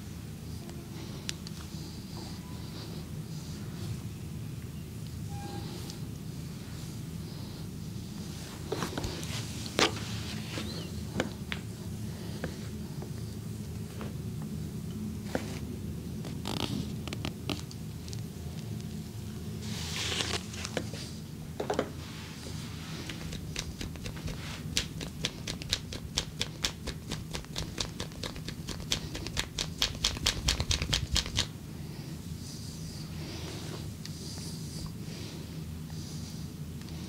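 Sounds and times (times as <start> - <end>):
low room hum: 0.0 - 37.0.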